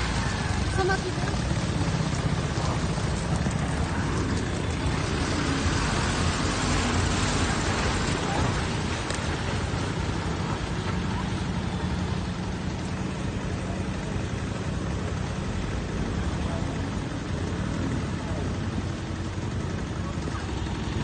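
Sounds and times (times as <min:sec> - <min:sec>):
road and wind noise: 0:00.0 - 0:21.0
scooter engine at low speed: 0:00.0 - 0:21.0.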